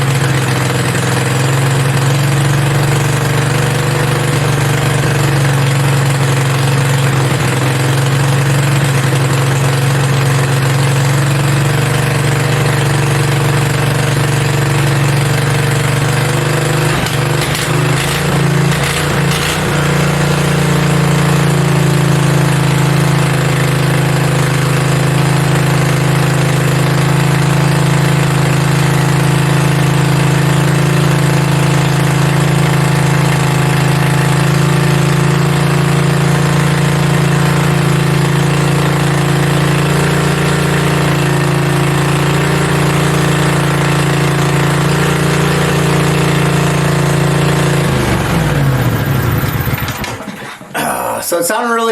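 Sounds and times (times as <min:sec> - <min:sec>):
engine idling fast: 0:00.0 - 0:50.6
engine clatter: 0:00.0 - 0:51.0.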